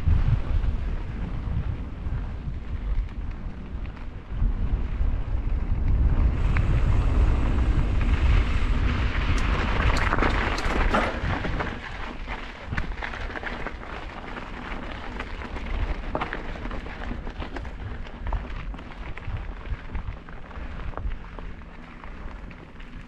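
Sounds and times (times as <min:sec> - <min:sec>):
crackles: 0:00.0 - 0:23.0
wind buffeting microphone: 0:00.0 - 0:23.0.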